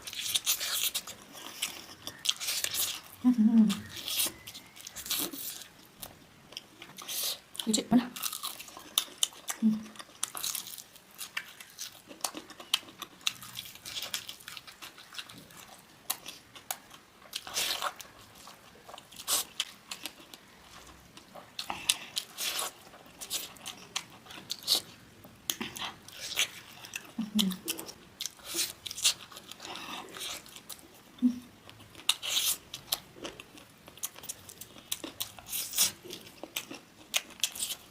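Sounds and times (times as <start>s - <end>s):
person biting and chewing food: 0.0s - 7.6s, 8.2s - 30.9s, 31.6s - 37.9s.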